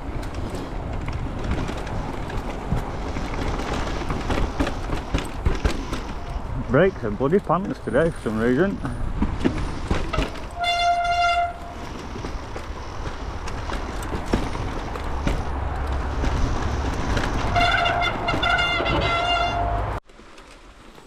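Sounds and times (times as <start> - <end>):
wind rush: 0.0 - 10.6, 11.5 - 18.6
tyre rumble on trail: 0.0 - 21.0.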